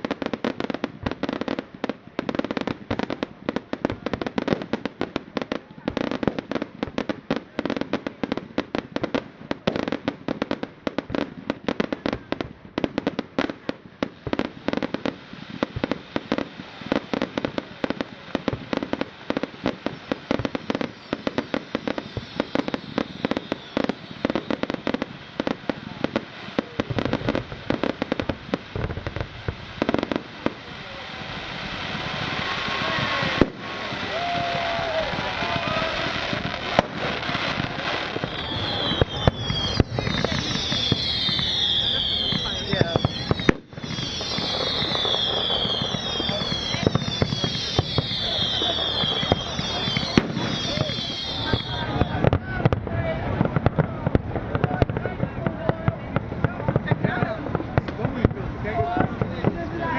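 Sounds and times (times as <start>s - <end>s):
firework cracks and bangs: 0.0s - 59.9s.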